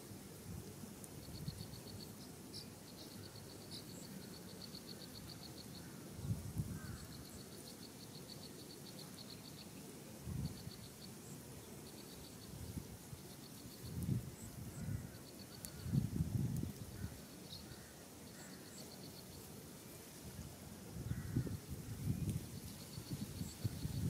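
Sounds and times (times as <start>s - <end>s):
insect chirping in rapid pulses: 0.9s - 24.0s.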